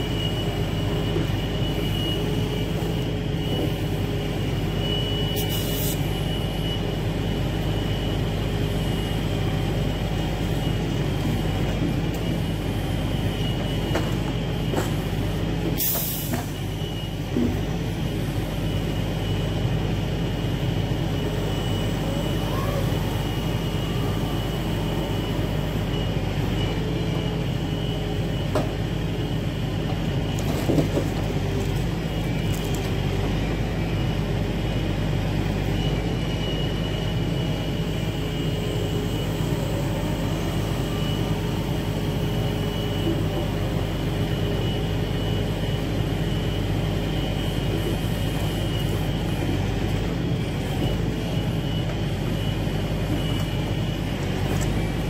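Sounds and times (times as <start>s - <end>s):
diesel engine under load: 0.0s - 55.0s
steady whine: 0.0s - 55.0s.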